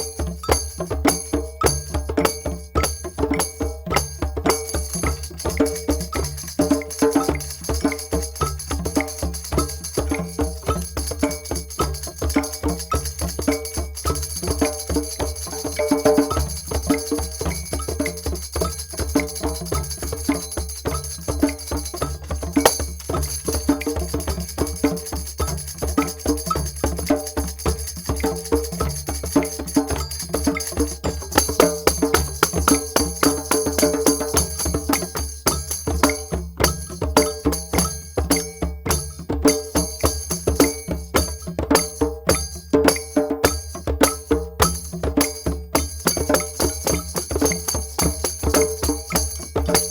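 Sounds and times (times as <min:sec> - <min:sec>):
drums and percussion playing: 0:00.0 - 0:49.9.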